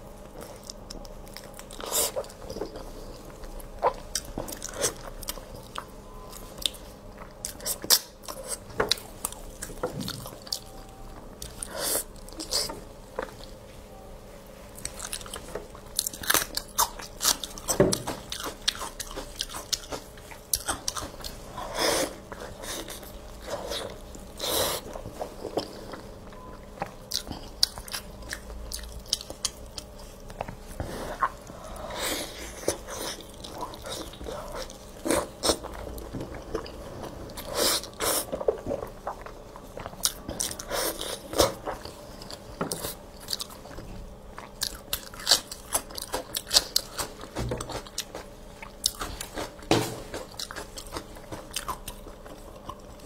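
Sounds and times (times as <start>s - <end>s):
chewing with wet mouth sounds: 0.2s - 13.7s, 14.6s - 53.0s.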